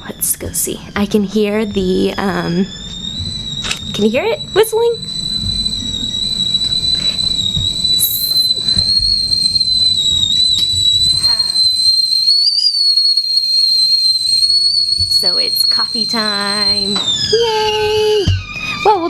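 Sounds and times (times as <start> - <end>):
kettle whistling: 0.0 - 19.0.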